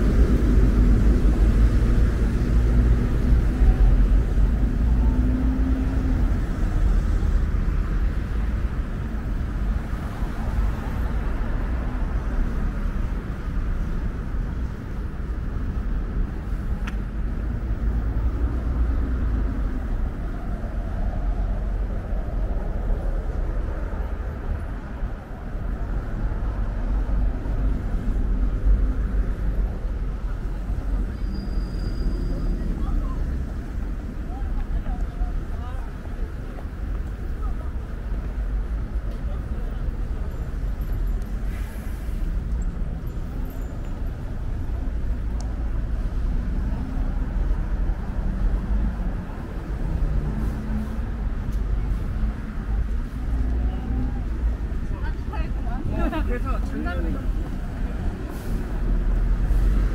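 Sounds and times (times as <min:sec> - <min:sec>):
street traffic rumble: 0:00.0 - 0:59.9.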